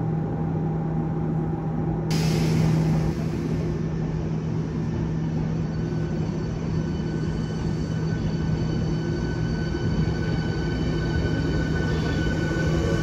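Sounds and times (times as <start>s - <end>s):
electric train rolling past: 2.1s - 13.0s.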